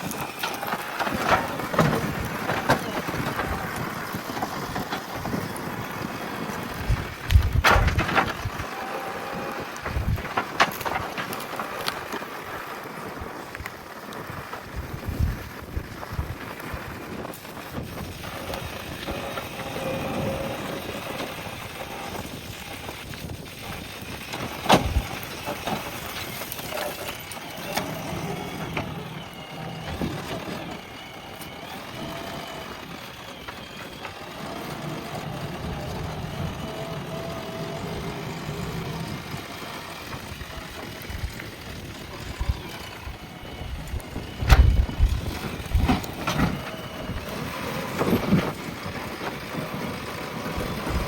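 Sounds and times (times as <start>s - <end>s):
diesel engine under load: 0.0s - 51.0s.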